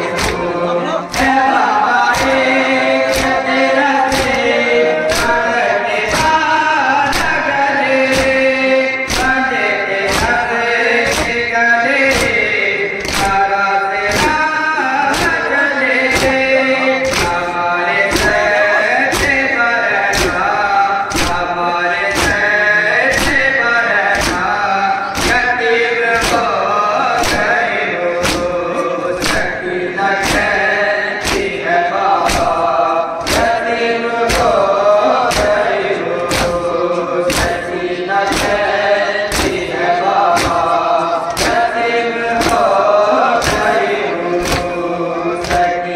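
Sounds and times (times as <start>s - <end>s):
men chanting together: 0.0s - 45.9s
rhythmic chest beating: 0.0s - 45.9s.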